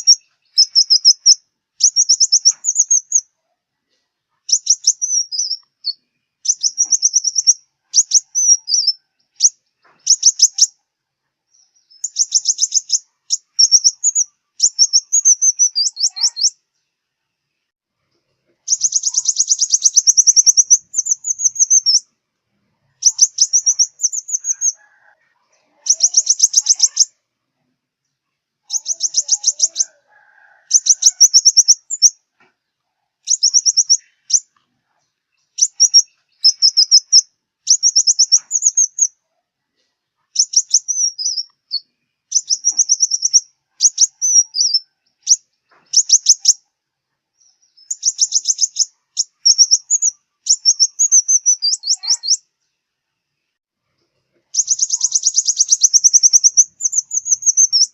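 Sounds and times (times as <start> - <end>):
bird trilling song: 0.0 - 3.4, 4.4 - 10.8, 11.5 - 16.9, 18.5 - 22.1, 22.8 - 27.2, 28.6 - 32.5, 33.2 - 39.2, 40.3 - 46.7, 47.4 - 52.5, 54.4 - 57.9.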